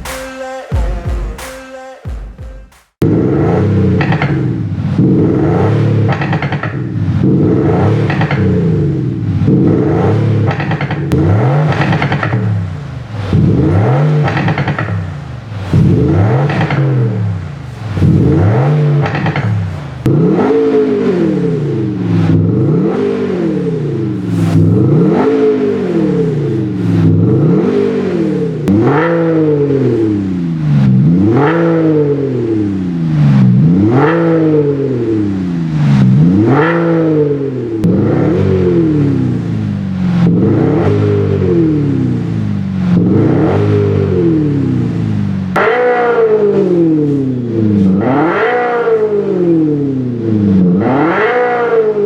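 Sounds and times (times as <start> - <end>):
diesel engine revving: 3.0 - 52.0.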